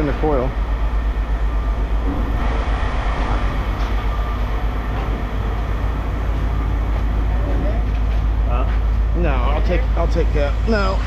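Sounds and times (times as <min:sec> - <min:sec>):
heavy machinery rumbling: 0:00.0 - 0:11.0.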